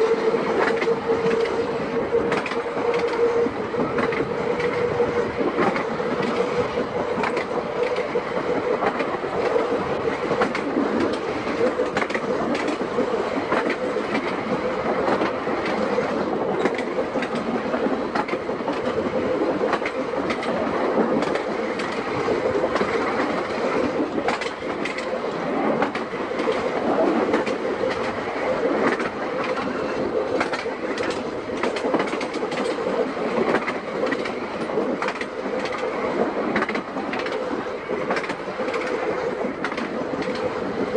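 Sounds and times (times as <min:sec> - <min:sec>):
electric tram humming: 0:00.0 - 0:40.9
wheels clicking over rail joints: 0:00.0 - 0:40.9.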